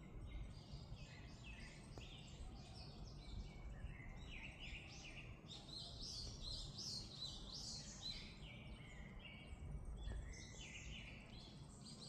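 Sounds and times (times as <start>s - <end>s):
birds chirping and singing: 0.2s - 12.0s.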